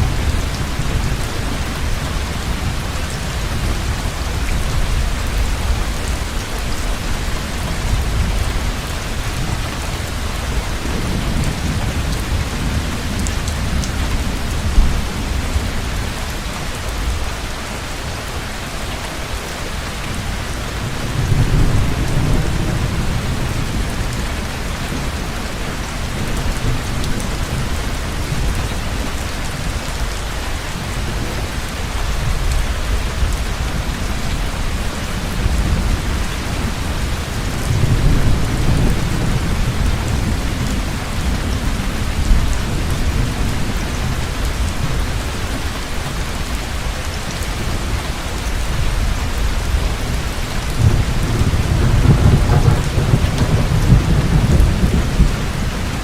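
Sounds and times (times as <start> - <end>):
low rolling thunder: 0.0 - 16.2, 20.2 - 29.2, 32.0 - 46.1, 48.6 - 56.0
heavy rain: 0.0 - 56.0.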